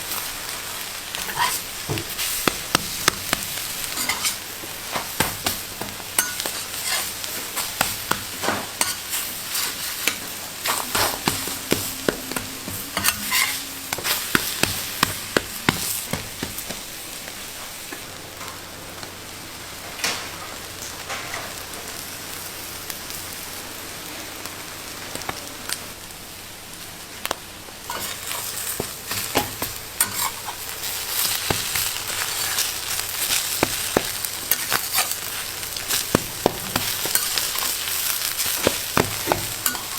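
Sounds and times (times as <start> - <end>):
food sizzling on hot surface: 0.0 - 39.9.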